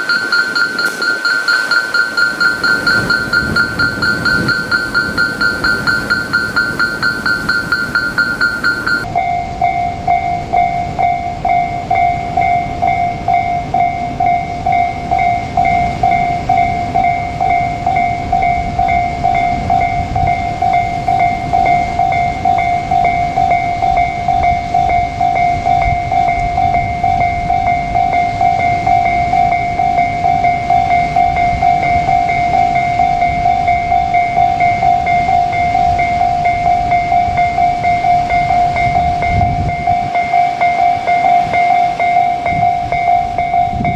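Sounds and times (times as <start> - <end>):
level crossing bell ringing: 0.0 - 43.9
trains rumbling past: 0.0 - 43.9.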